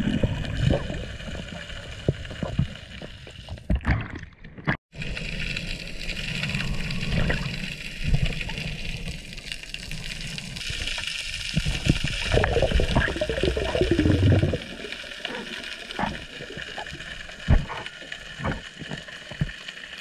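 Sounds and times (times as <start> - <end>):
underwater rumble and gurgle: 0.0 - 20.0.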